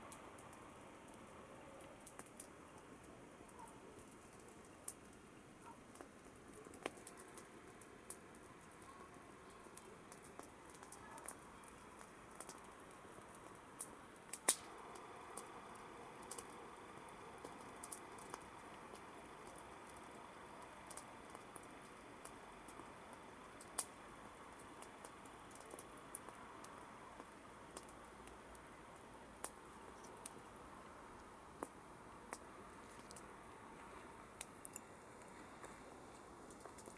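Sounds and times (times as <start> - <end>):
campfire crackling and popping: 0.0 - 36.9
soft steady hiss: 0.0 - 36.9.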